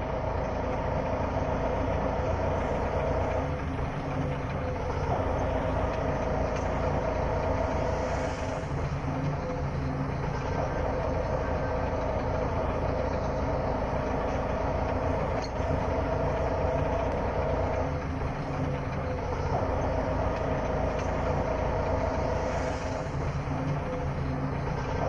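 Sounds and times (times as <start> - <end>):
rickshaw engine drone: 0.0 - 25.0
road and rattle noise: 0.0 - 25.0.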